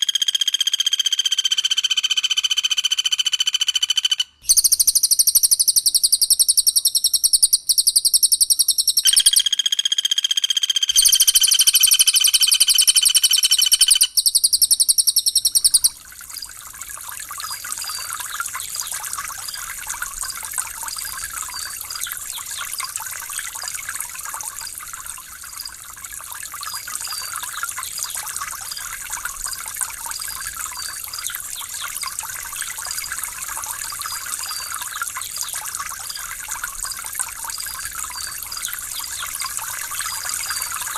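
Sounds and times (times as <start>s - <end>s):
running water trickle: 4.4s - 9.4s, 11.0s - 40.9s.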